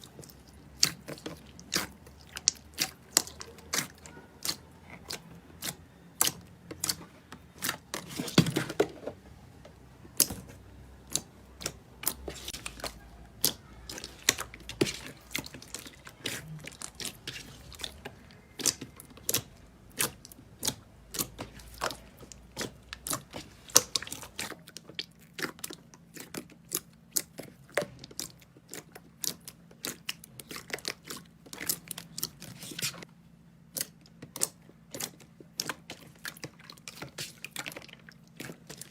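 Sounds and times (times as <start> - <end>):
crunchy squelch: 0.0 - 9.1, 10.0 - 33.1, 33.7 - 38.9.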